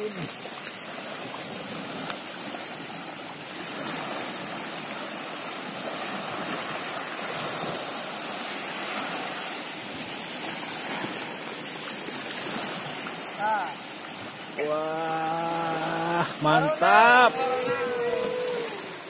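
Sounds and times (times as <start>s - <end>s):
small waves lapping: 0.0s - 19.0s.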